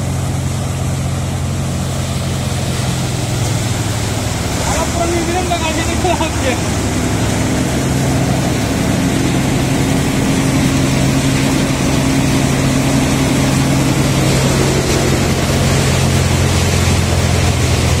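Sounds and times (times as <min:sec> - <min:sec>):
thresher machine droning: 0:00.0 - 0:18.0.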